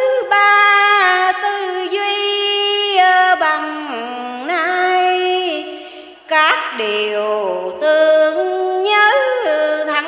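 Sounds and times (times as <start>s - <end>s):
woman chanting: 0.0s - 10.0s.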